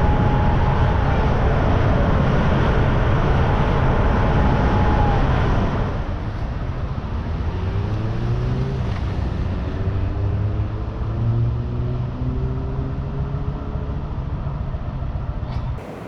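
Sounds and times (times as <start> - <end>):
road and wind noise: 0.0 - 16.0
vehicle engine hum: 0.0 - 16.0.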